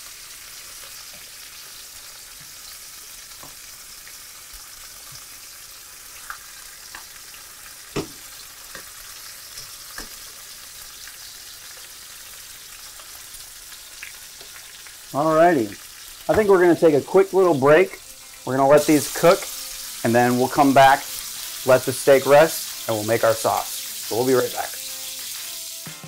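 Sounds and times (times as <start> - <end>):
steaks sizzling in skillet: 0.0 - 26.0.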